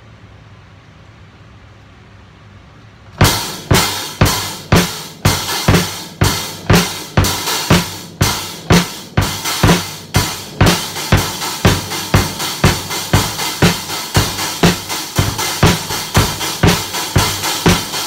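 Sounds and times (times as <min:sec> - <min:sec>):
drum beat: 0:03.2 - 0:18.0.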